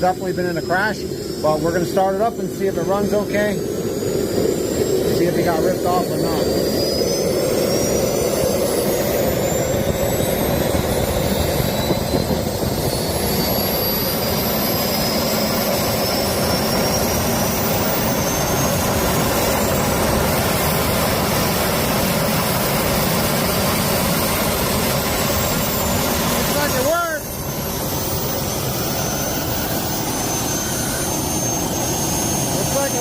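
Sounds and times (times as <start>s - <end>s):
jet engine turbine whine: 0.0s - 33.0s.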